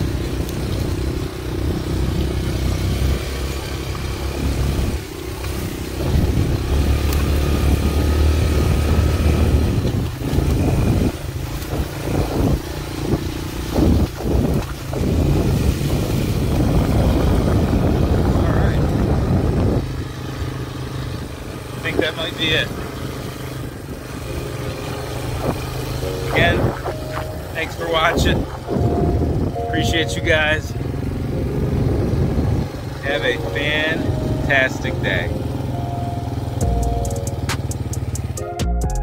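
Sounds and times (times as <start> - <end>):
motorbike engine revving: 0.0 - 38.5.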